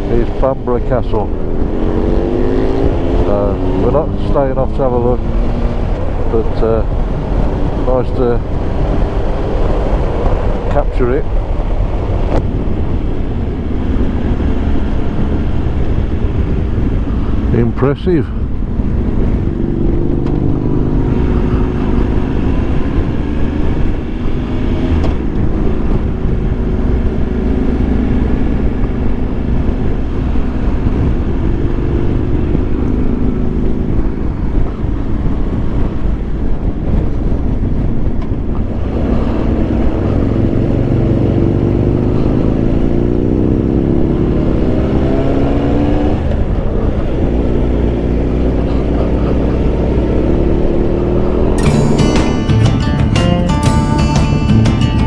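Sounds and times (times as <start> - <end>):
motorcycle engine revving: 0.0 - 17.6, 18.6 - 55.0
wind rush on microphone: 0.0 - 51.6.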